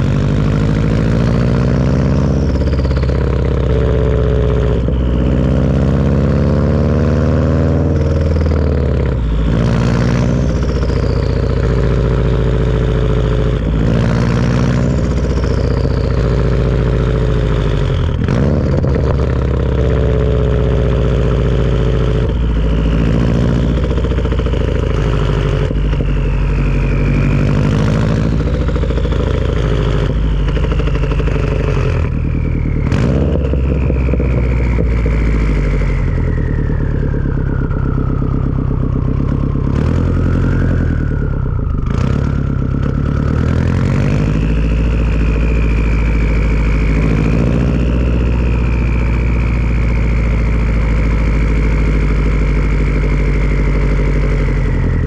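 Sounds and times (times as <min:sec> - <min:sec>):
turbocharged car engine revving: 0:00.0 - 0:55.0
turbo whistle: 0:00.8 - 0:06.2, 0:07.3 - 0:55.0.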